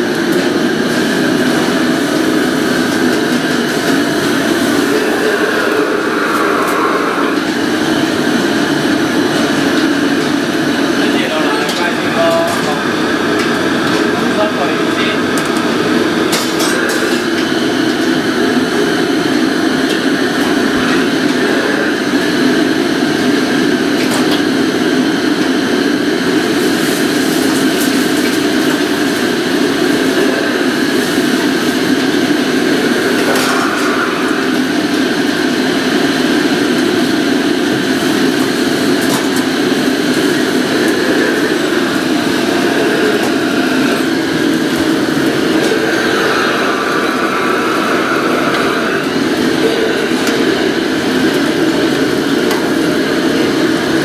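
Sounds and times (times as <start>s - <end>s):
extraction hood running: 0.0s - 54.0s
gas wok burners roaring: 0.0s - 54.0s.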